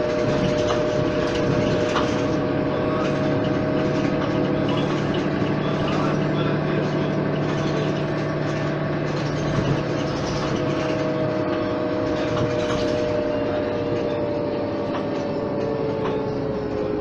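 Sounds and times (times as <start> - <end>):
bus diesel engine running: 0.0 - 17.0
road noise: 0.0 - 17.0.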